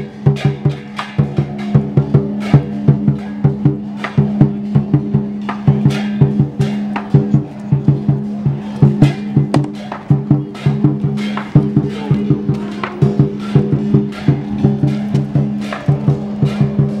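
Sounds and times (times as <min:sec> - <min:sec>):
barrel drum beaten quickly: 0:00.0 - 0:17.0
crashing cymbals: 0:00.0 - 0:17.0.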